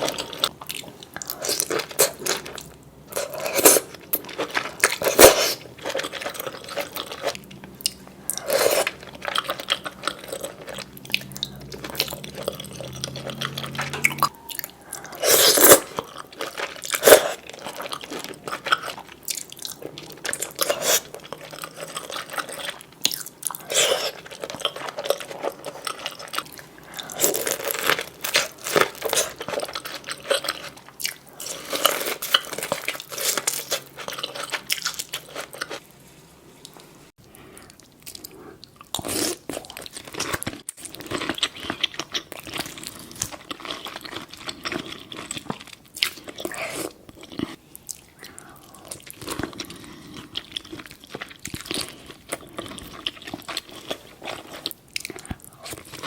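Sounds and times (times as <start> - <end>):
crunching and chewing food: 0.0 - 36.0, 36.6 - 56.0.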